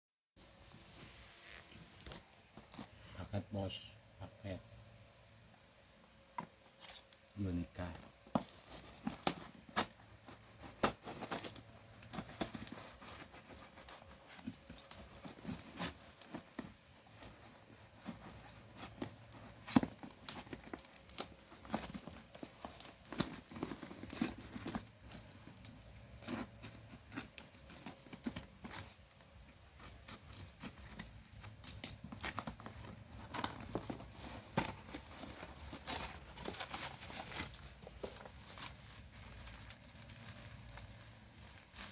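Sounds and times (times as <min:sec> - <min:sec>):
packing material tearing and crinkling: 0:06.8 - 0:41.9.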